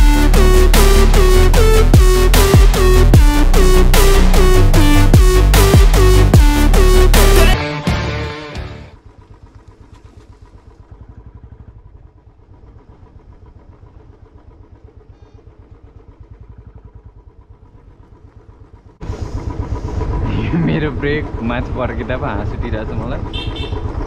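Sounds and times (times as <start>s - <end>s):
motorcycle engine idling: 0.0s - 7.5s, 8.6s - 24.0s.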